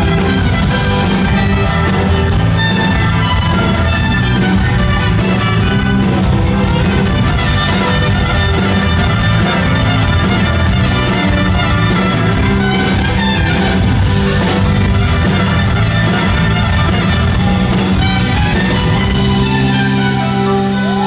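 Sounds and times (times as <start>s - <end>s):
live rock band playing: 0.0s - 21.0s
trumpet: 0.0s - 21.0s.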